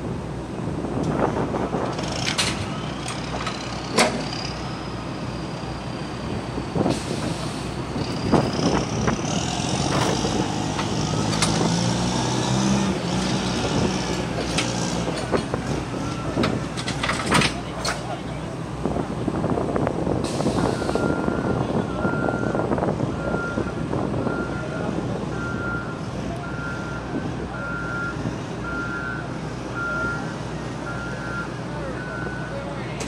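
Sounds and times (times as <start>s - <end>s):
heavy engine running: 0.0s - 33.0s.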